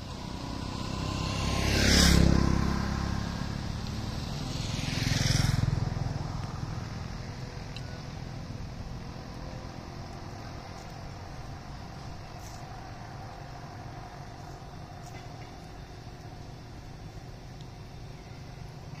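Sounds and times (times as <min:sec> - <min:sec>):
distant road traffic rumble: 0:00.0 - 0:19.0
faint engine hum: 0:00.0 - 0:19.0.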